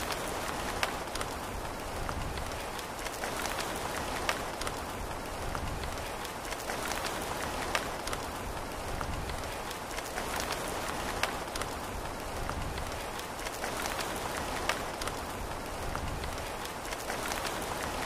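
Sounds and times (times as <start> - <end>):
raindrop taps: 0.0 - 18.0
steady rain hiss: 0.0 - 18.0.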